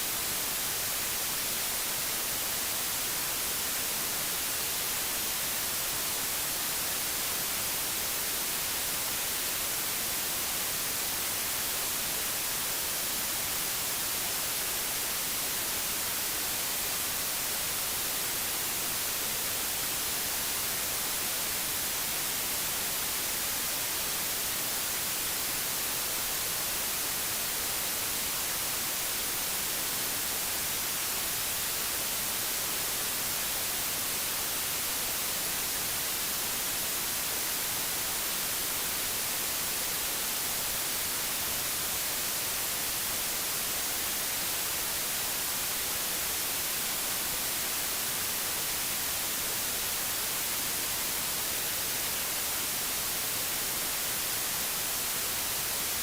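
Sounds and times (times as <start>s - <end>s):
digital white noise hiss: 0.0s - 56.0s.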